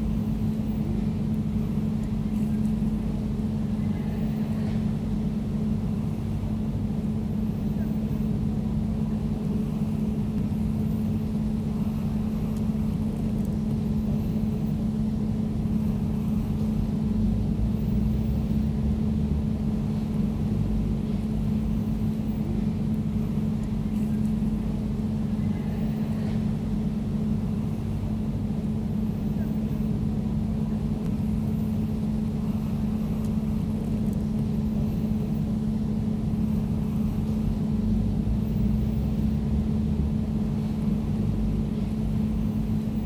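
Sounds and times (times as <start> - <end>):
air conditioner humming: 0.0 - 43.0.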